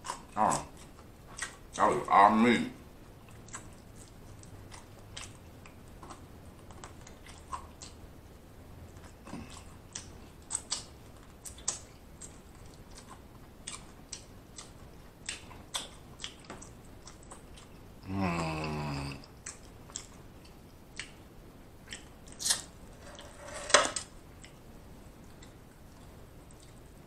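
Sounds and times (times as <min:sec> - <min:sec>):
chewing fried chicken: 0:00.0 - 0:23.2, 0:24.0 - 0:27.0.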